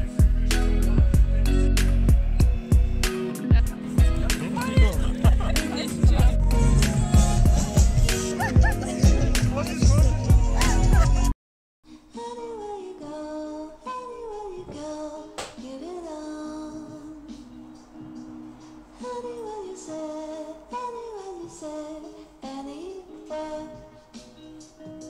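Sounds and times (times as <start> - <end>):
soft song with woman singing: 0.0 - 11.3, 11.9 - 25.0.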